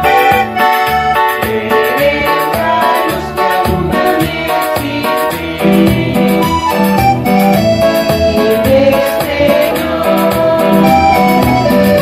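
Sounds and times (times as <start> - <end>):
keyboard-led church hymn: 0.0 - 12.0.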